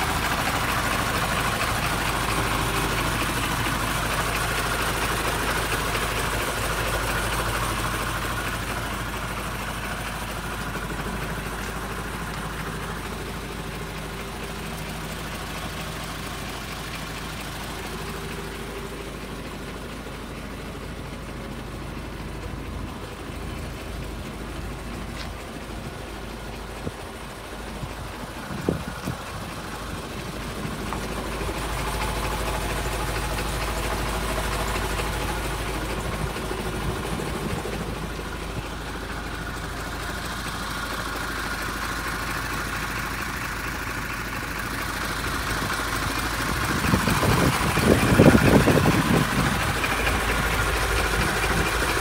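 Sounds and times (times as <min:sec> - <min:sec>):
diesel truck engine idling: 0:00.0 - 0:52.0.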